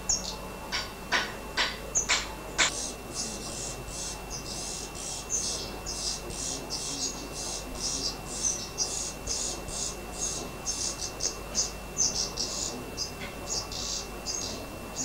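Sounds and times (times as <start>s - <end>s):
fledglings begging calls: 0.0s - 15.0s.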